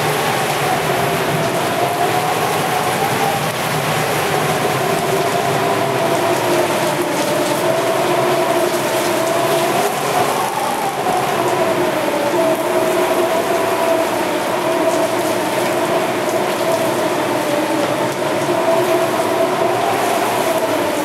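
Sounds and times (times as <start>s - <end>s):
heavy rain: 0.0s - 21.0s
strong wind: 0.0s - 21.0s.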